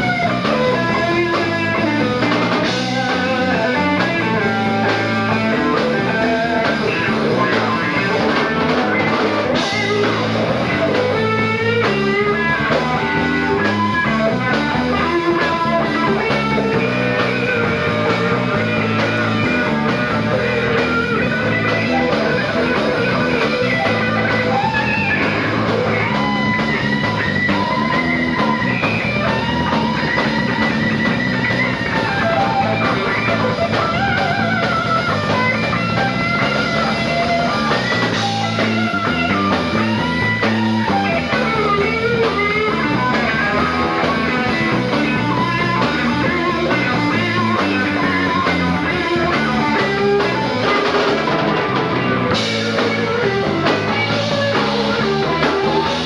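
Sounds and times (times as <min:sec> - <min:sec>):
drum kit: 0:00.0 - 0:56.0
electric guitar lead lines: 0:00.0 - 0:56.0.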